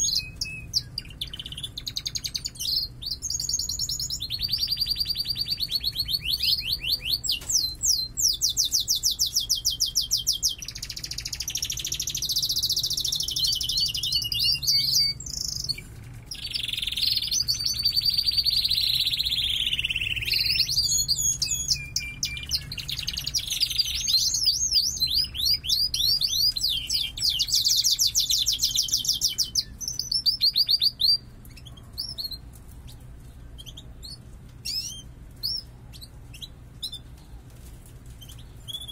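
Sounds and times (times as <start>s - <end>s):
canaries singing trills: 0.0s - 38.9s.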